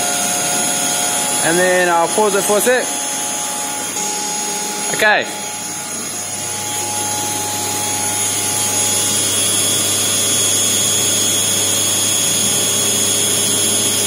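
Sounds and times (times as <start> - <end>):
cnc mill machining whine: 0.0 - 14.0.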